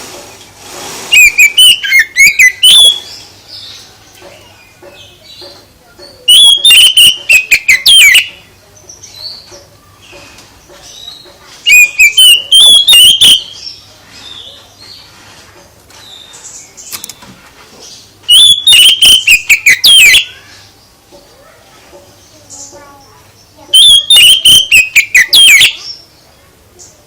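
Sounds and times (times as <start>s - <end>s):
songbird singing: 1.2s - 27.0s.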